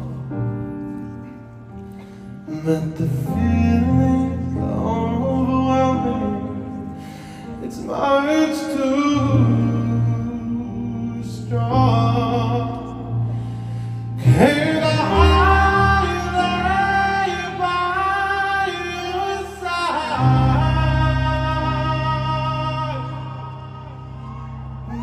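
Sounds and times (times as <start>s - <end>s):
person singing a slow ballad: 0.0s - 25.0s.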